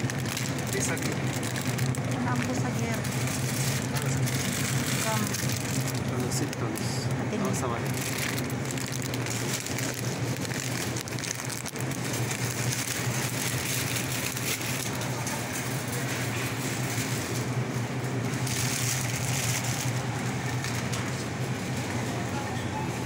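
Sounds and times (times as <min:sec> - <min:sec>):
refrigerated display cases humming: 0:00.0 - 0:23.0.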